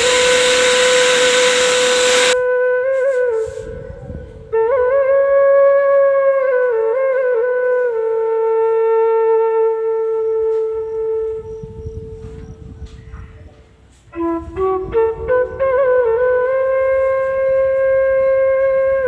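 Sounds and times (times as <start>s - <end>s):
solo flute-like melody: 0.0s - 12.7s, 14.0s - 19.0s.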